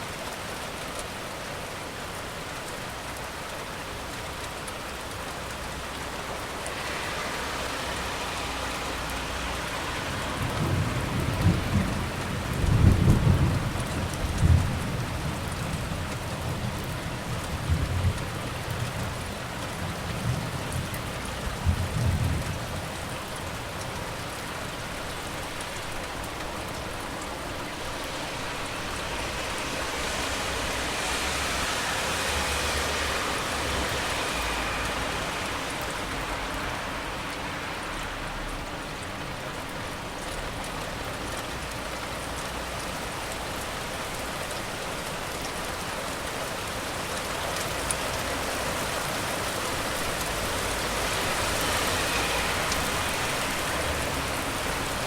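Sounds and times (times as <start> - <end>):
steady rain hissing: 0.0 - 55.0
traffic on a wet road: 0.0 - 55.0.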